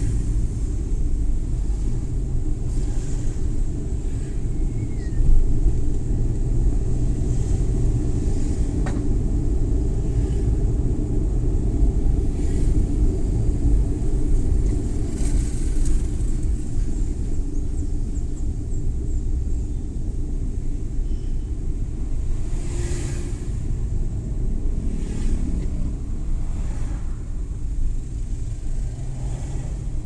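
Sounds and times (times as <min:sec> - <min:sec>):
van engine and tyre rumble: 0:00.0 - 0:30.0.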